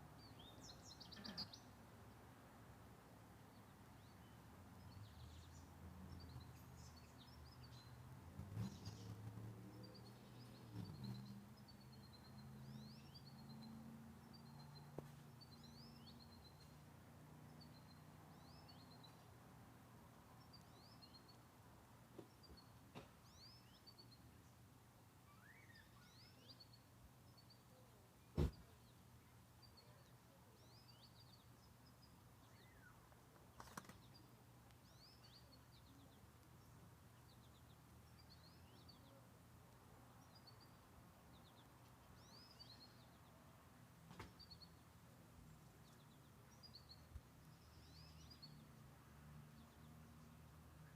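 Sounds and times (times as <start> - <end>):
faint songbird chirping: 0.0 - 50.9.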